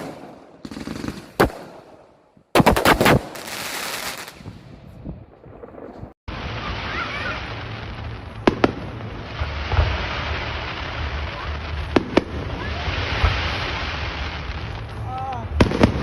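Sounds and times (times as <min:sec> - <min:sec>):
firework bangs: 0:00.0 - 0:16.0.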